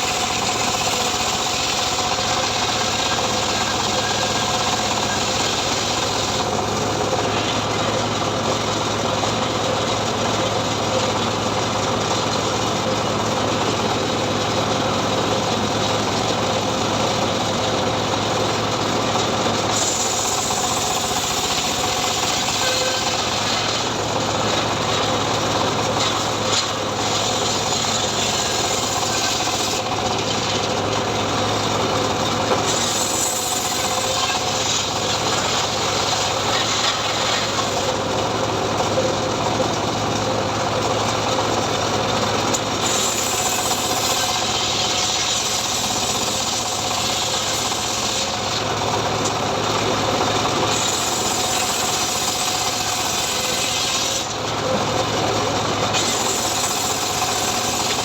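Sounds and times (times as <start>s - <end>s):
engine-driven log saw cutting wood: 0.0s - 58.0s.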